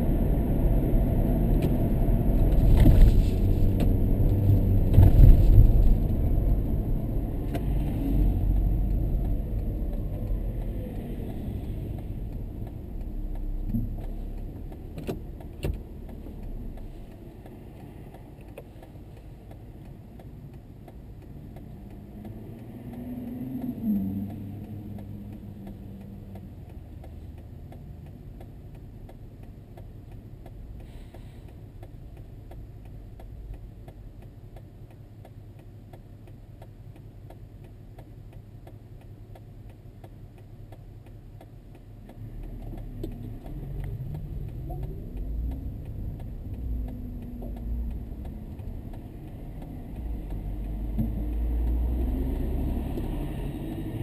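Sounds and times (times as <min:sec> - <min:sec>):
regular ticking: 0:03.7 - 0:54.0.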